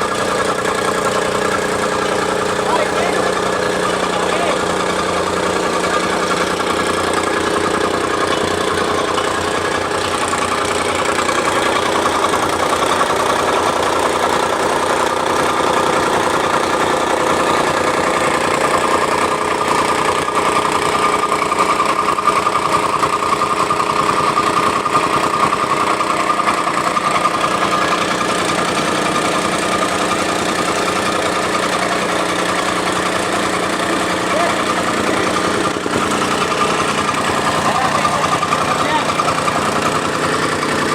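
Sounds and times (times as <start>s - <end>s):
compactor engine running: 0.0s - 40.9s
rapid pounding of compactor: 0.0s - 40.9s.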